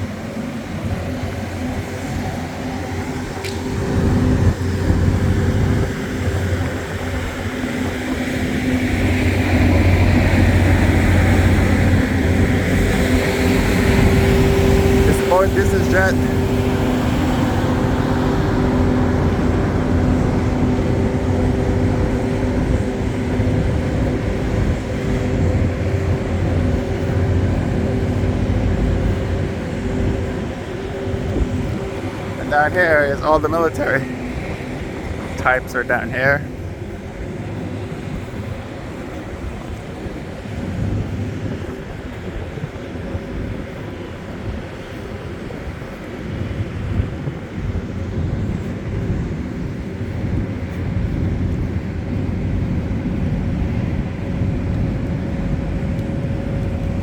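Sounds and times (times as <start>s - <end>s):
machinery hum: 0.0s - 57.0s
wind buffeting microphone: 0.0s - 57.0s.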